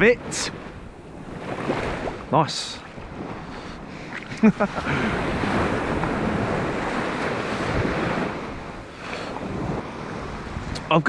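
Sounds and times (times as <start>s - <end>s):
sea waves washing in: 0.0s - 11.0s
wind on microphone: 0.0s - 11.0s.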